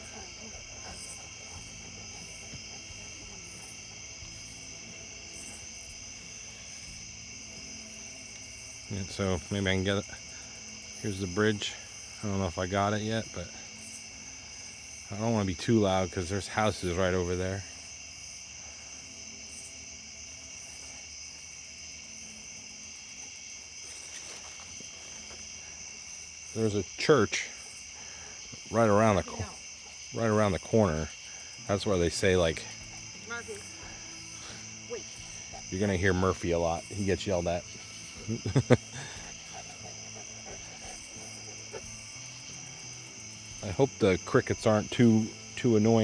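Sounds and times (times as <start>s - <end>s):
high insect buzzes: 0.0s - 15.4s, 17.6s - 46.0s
crickets trilling: 0.0s - 46.0s.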